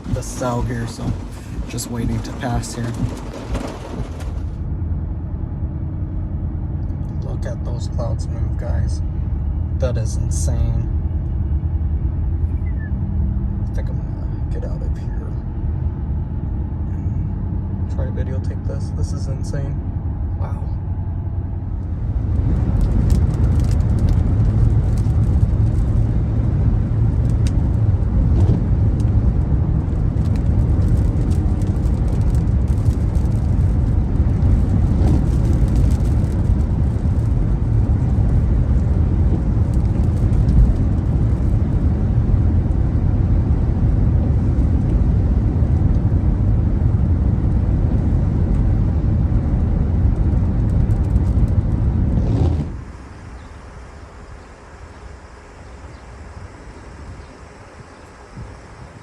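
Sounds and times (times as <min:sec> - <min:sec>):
strong wind buffeting microphone: 0:00.0 - 0:17.9, 0:19.8 - 0:53.5.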